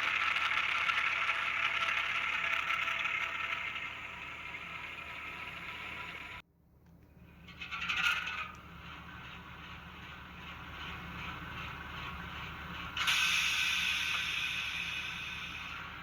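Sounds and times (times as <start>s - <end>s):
model train engine sound: 0.0s - 6.4s, 7.2s - 16.0s.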